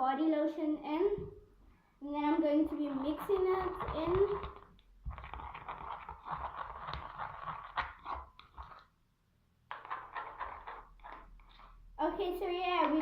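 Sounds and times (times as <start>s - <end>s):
stirring in a bowl: 1.3s - 9.0s, 9.6s - 13.0s.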